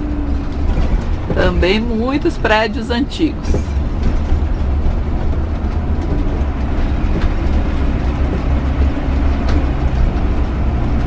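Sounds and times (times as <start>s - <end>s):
motorhome engine and road noise: 0.0s - 11.0s.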